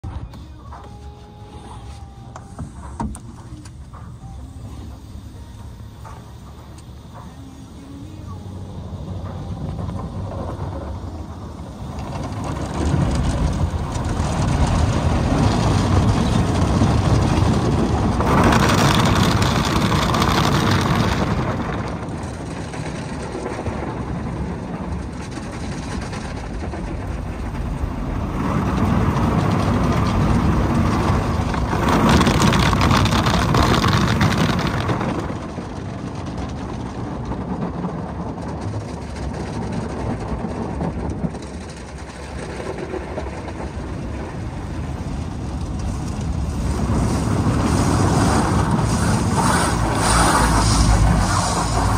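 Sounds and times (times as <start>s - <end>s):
car wash low rumble: 0.0s - 51.9s
water spraying onto car: 0.3s - 51.9s.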